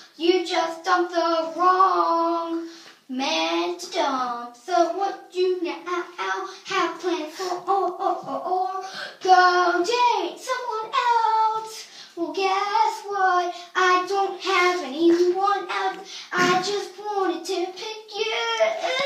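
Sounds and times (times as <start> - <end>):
boy singing unaccompanied: 0.0 - 19.0.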